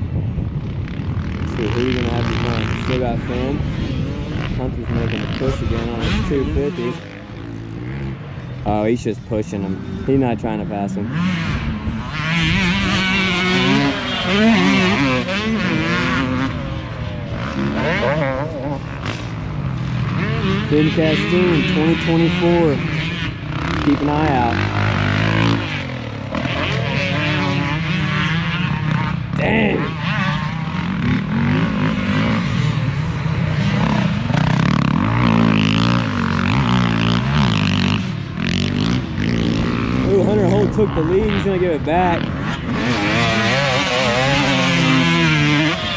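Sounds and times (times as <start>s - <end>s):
dirt bike engines racing: 0.0s - 45.9s.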